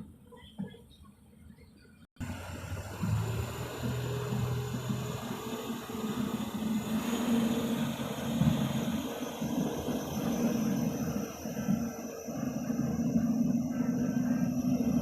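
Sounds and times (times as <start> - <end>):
diesel engine running under load: 2.2 - 15.0.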